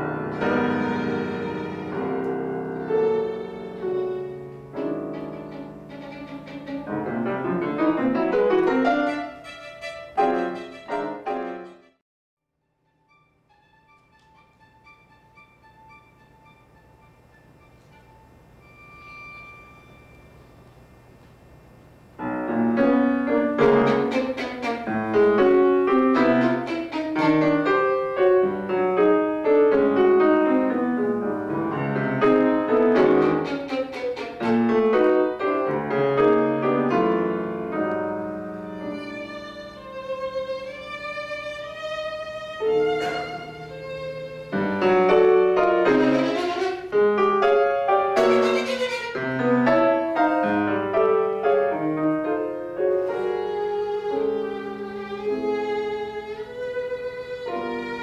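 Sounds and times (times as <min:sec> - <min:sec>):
violin and piano playing: 0:00.0 - 0:12.0, 0:12.6 - 0:20.4, 0:22.2 - 0:58.0.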